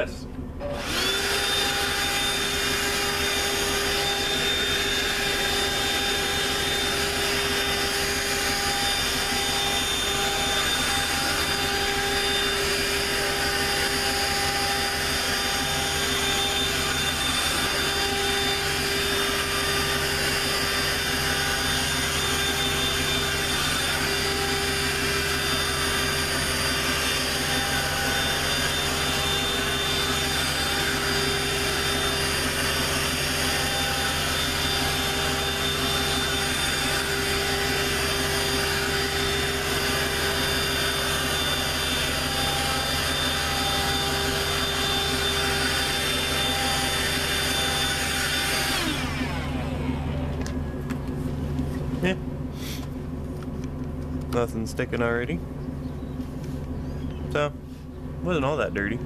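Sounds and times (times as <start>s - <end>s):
handheld vacuum running: 0.6s - 55.1s.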